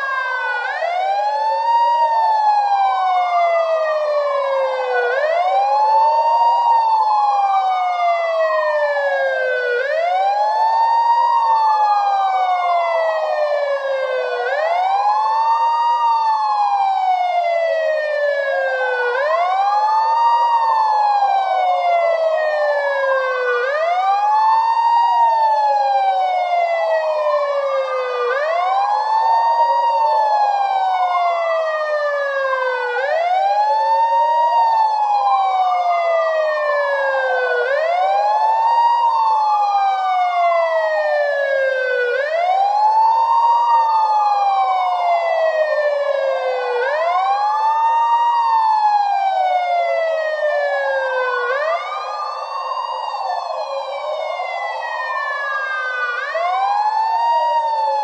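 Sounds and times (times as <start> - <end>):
police siren wailing: 0.0 - 58.0.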